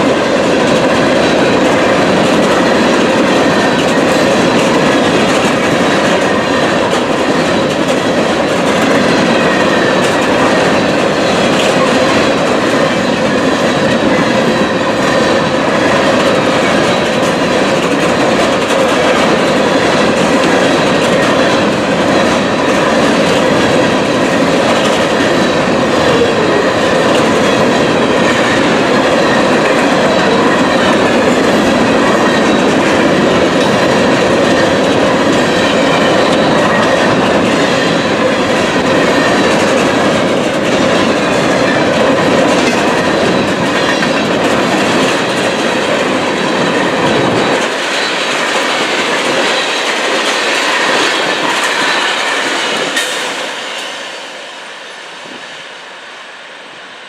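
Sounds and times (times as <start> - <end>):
wheels clacking over rail joints: 0.0 - 54.3
freight train wheels rumbling: 0.0 - 57.0.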